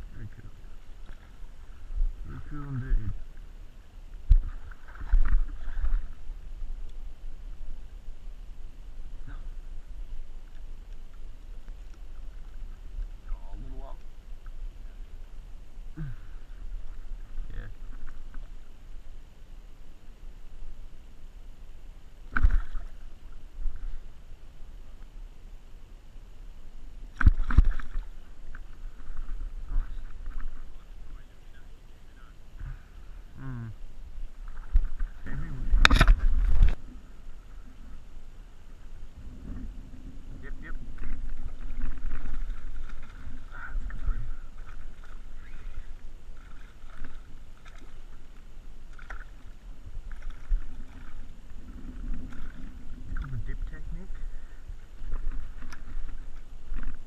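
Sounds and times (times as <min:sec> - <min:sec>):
steady low rumble: 0:00.0 - 0:57.0.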